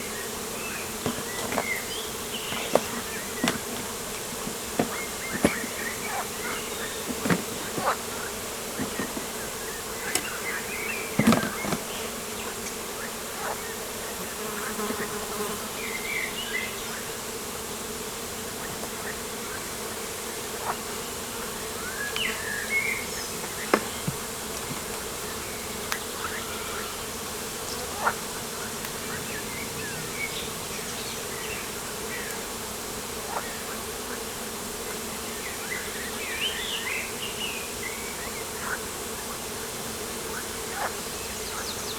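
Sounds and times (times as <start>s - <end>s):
flying insects buzzing: 0.0s - 41.9s.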